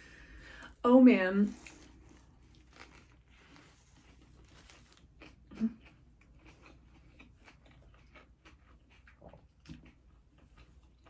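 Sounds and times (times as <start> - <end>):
chewing and crunching: 1.4 - 11.0.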